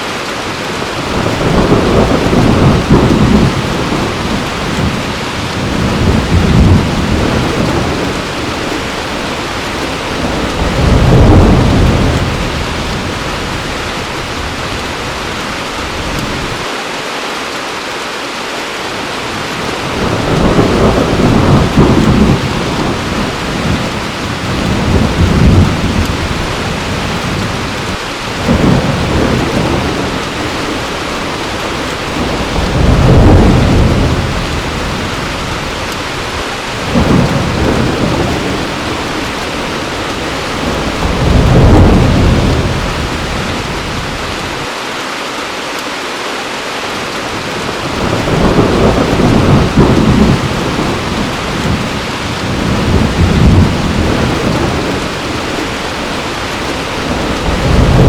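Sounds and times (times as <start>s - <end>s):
heavy rain falling: 0.0s - 58.0s
thunder rumbling: 0.7s - 16.6s, 19.3s - 44.7s, 47.3s - 58.0s.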